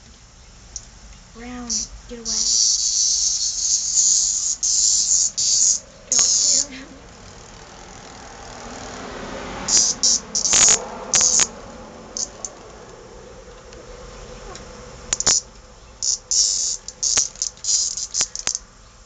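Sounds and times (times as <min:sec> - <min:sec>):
cicada harsh buzzing bursts: 0:00.0 - 0:19.0.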